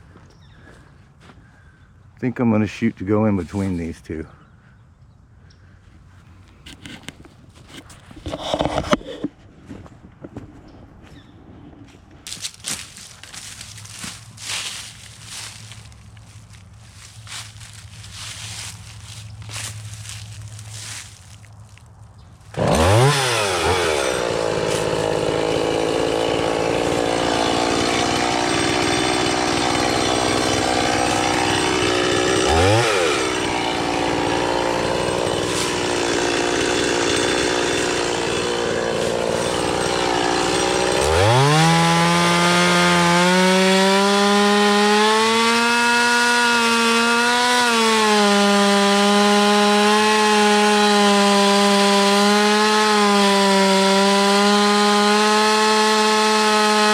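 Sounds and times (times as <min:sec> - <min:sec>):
chainsaw cutting wood: 0:06.5 - 0:09.3, 0:12.3 - 0:21.3, 0:22.4 - 0:56.9.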